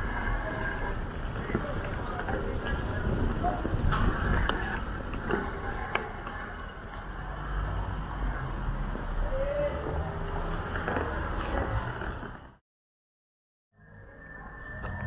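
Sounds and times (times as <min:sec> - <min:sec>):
street traffic rumble: 0:00.0 - 0:12.6.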